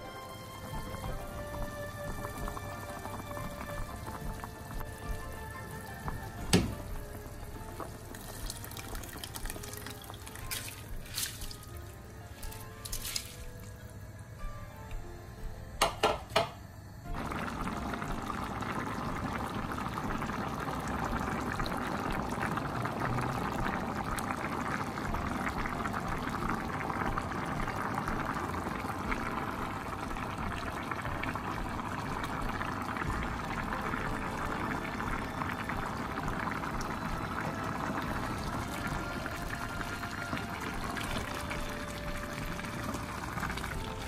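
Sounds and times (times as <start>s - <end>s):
stock boiling in a pot: 0.0s - 15.0s, 15.8s - 44.0s.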